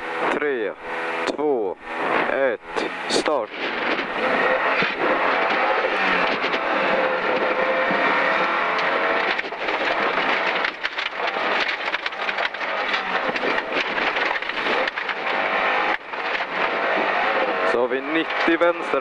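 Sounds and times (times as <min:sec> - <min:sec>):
car engine accelerating hard: 0:00.0 - 0:19.0
gravel pelting underbody: 0:03.3 - 0:19.0.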